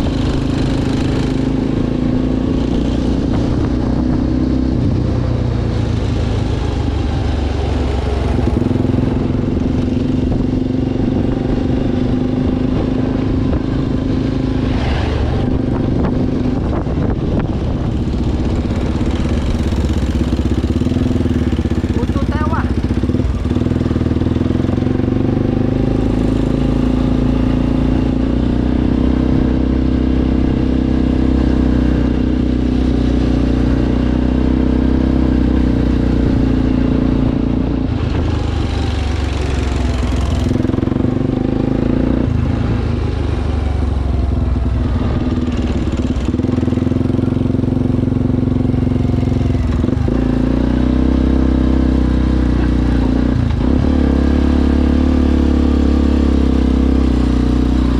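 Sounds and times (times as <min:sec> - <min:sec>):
engine running: 0:00.0 - 0:57.9.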